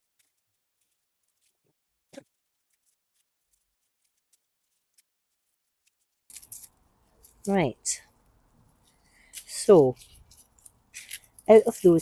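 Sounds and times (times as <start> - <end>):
garlic skin crackling: 2.2 - 12.0.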